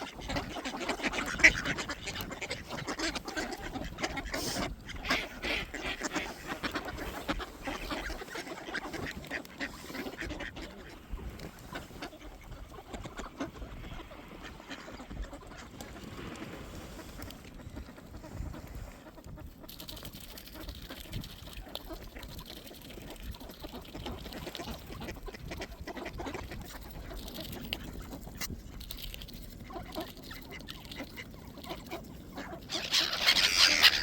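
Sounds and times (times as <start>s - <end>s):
ducks quacking: 0.0s - 34.0s.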